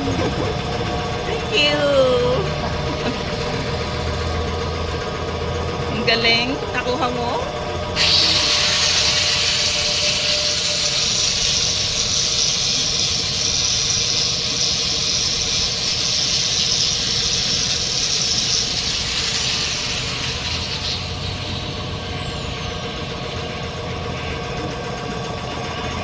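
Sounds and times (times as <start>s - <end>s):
rotary tool whining: 0.0s - 26.0s.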